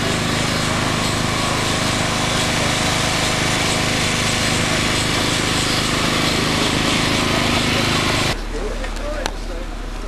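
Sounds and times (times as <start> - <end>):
steam engine beat: 0.0 - 8.4
steam hiss: 0.0 - 8.4.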